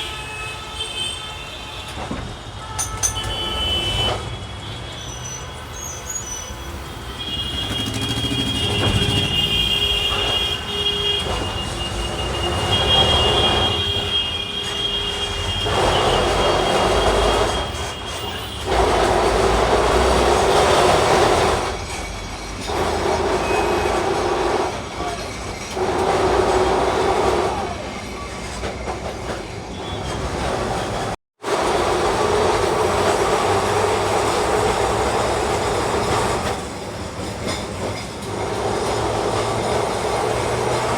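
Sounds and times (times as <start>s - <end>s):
high wheel squeal: 1.2s - 40.9s
tram wheels rumbling on rails: 1.7s - 40.9s.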